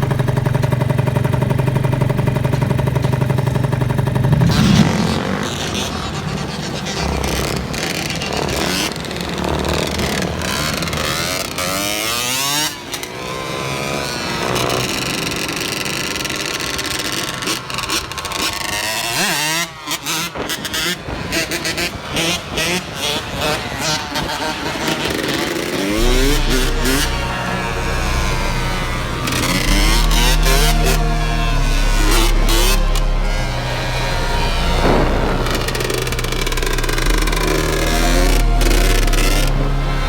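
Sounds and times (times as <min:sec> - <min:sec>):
scooter engine idling and revving: 0:00.0 - 0:40.0.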